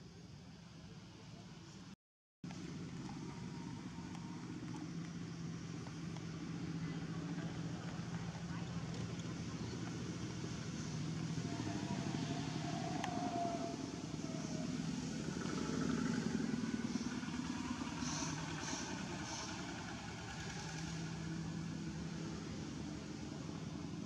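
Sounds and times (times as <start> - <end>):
vehicle engine humming: 2.4 - 24.0.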